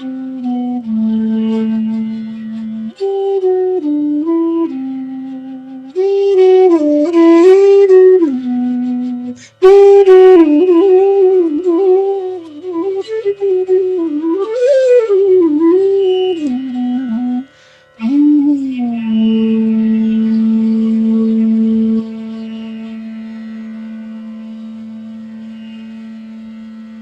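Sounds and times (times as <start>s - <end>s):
bamboo flute melody: 0.0s - 27.0s.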